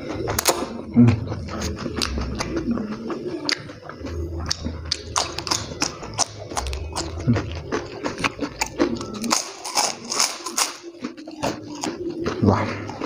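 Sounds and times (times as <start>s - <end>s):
person crunching cracker: 0.3s - 13.0s.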